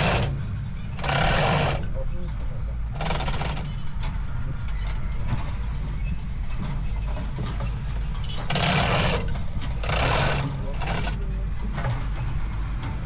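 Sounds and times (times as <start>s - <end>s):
large engine rumbling: 0.0s - 13.0s.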